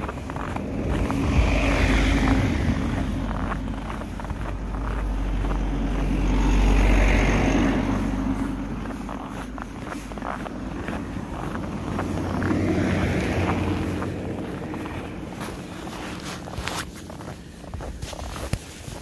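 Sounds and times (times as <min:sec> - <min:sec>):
cars driving past on snow: 0:00.0 - 0:19.0.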